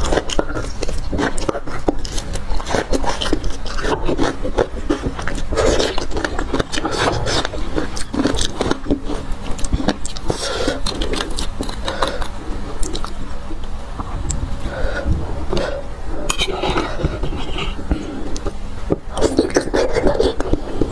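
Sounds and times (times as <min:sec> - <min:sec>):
mouth sucking and chewing: 0:00.0 - 0:20.9.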